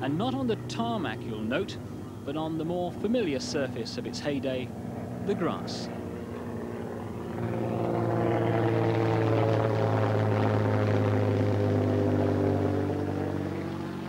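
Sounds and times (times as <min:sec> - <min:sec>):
propeller plane engine passing: 0:00.0 - 0:14.0.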